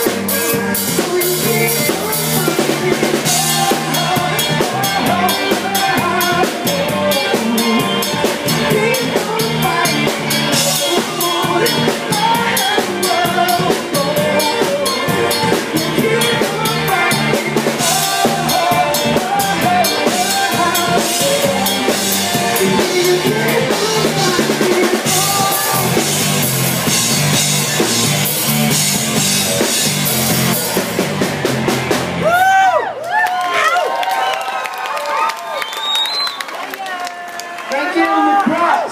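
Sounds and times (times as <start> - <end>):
drum kit playing: 0.0 - 32.7
live rock band: 0.0 - 32.8.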